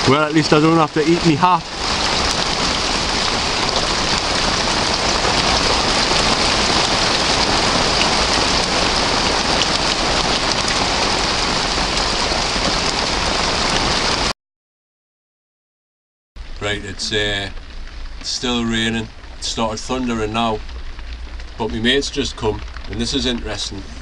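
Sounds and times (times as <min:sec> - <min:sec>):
heavy rain on a shed: 0:00.0 - 0:14.3, 0:16.4 - 0:24.0.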